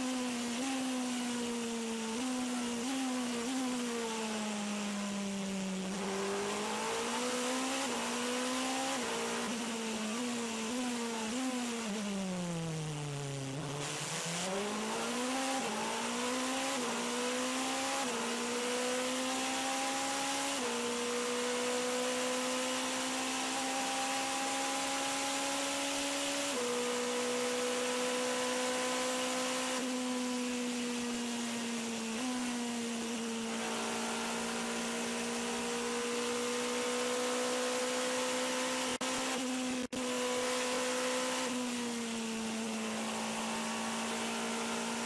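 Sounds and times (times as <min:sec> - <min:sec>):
race car engine: 0:00.0 - 0:45.0.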